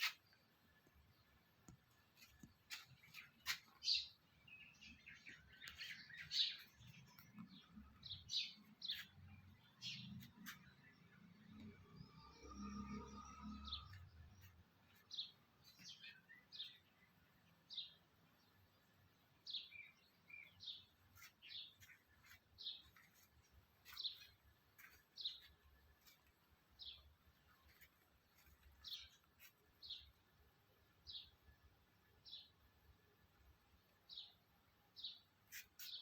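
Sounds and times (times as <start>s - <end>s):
bird chirping: 0.0s - 30.3s, 35.0s - 36.0s.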